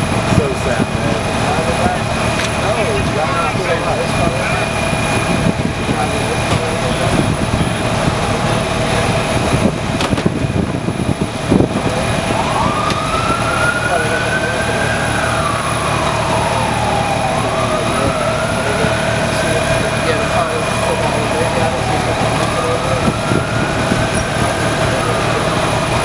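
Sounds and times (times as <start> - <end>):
engines and equipment droning: 0.0 - 26.0
siren wailing: 0.0 - 26.0.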